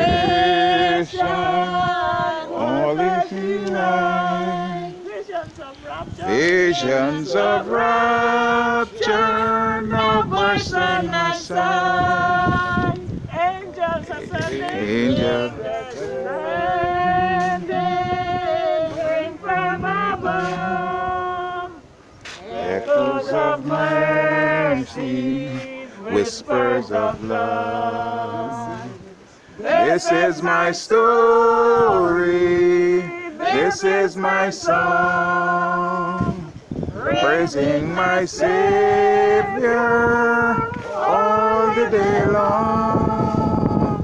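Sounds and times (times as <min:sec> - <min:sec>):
group singing slow hymn: 0:00.0 - 0:44.0.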